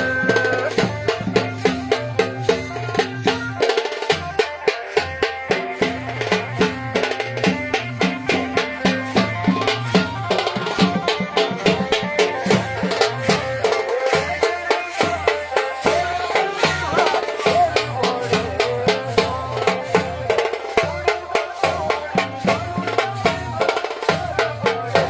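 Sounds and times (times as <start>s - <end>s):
band melody: 0.0s - 25.0s
drums beating fast rhythm: 0.0s - 25.0s.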